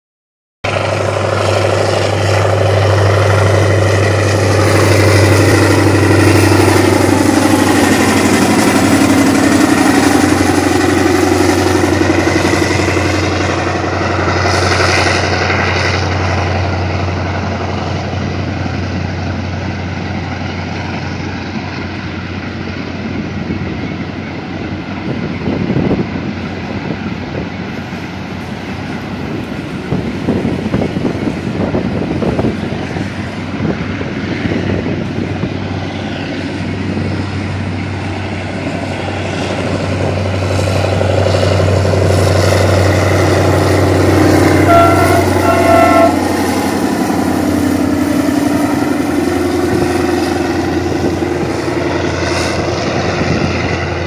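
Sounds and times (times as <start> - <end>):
locomotive engine drone: 0.6 - 54.0
wagons rolling wheel rumble: 0.7 - 54.0.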